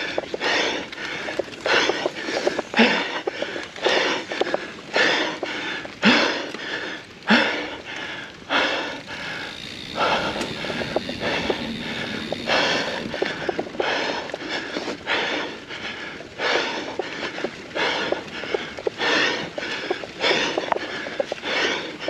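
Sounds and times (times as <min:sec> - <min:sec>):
small clicks: 0:00.0 - 0:06.8, 0:07.8 - 0:15.0, 0:16.6 - 0:22.0
person breathing hard: 0:00.0 - 0:22.0.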